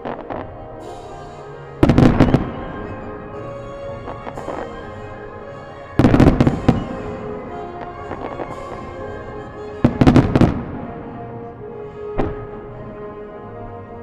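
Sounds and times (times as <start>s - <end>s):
fireworks bangs: 0.0s - 11.2s, 12.1s - 12.8s
music: 0.0s - 14.0s.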